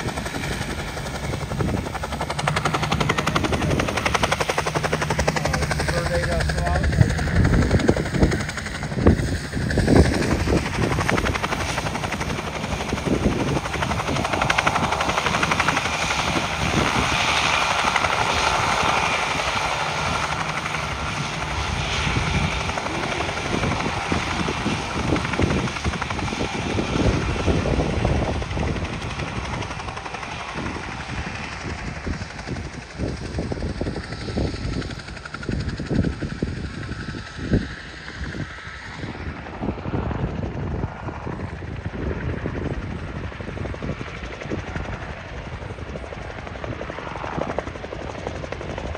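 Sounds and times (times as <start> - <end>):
helicopter rotor beating: 0.0 - 48.9.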